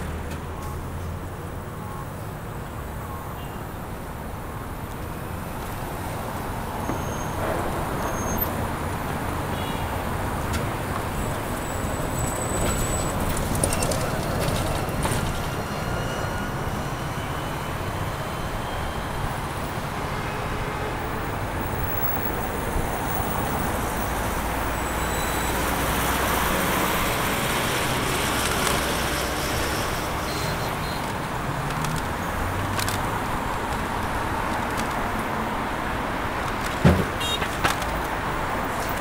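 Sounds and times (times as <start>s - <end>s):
cars passing on a street: 0.0s - 39.0s
rumble of engines and tyres: 0.0s - 39.0s.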